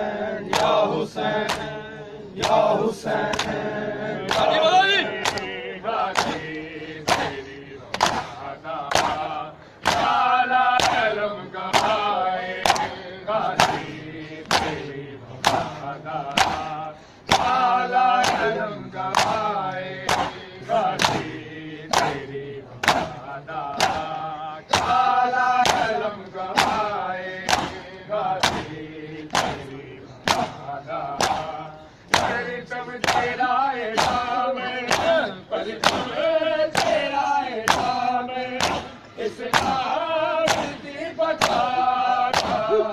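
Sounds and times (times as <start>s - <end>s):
men chanting together: 0.0s - 42.9s
hands slapping chests in unison: 0.4s - 42.9s.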